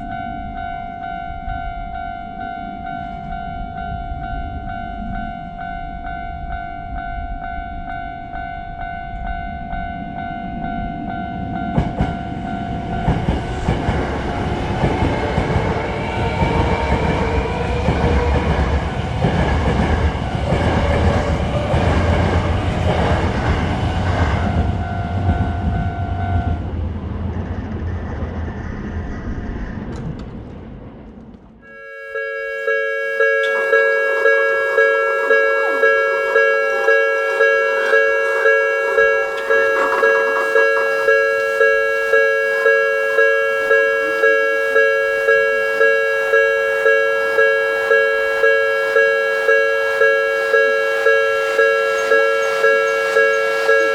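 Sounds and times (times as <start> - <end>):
level crossing warning bell: 0.0 - 26.8, 31.6 - 53.9
train rumbling past: 0.0 - 53.9.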